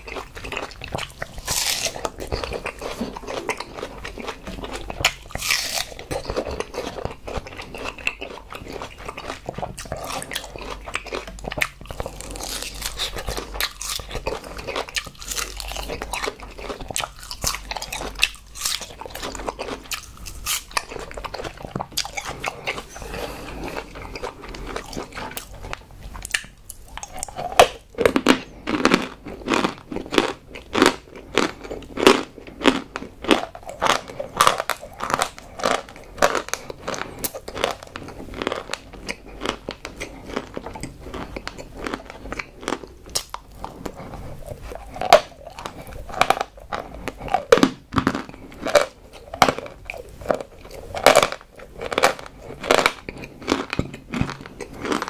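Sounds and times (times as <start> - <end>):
person chewing something crunchy: 0.0 - 55.0.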